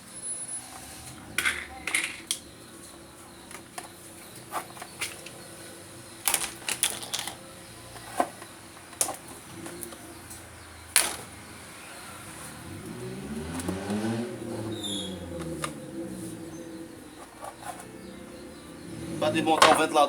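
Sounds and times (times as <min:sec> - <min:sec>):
fan parts clicking and knocking: 0:00.7 - 0:20.0.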